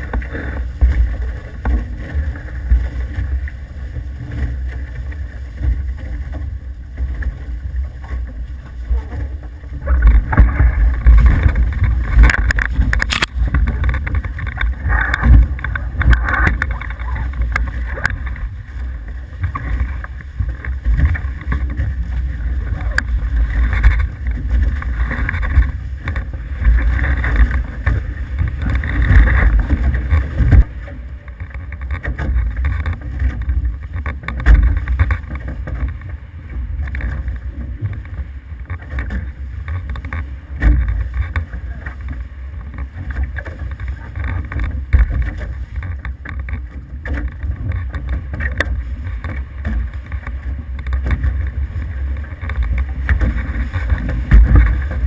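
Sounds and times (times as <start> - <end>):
water rushing along hulls: 0.0 - 55.0
wind buffeting microphone: 0.0 - 55.0.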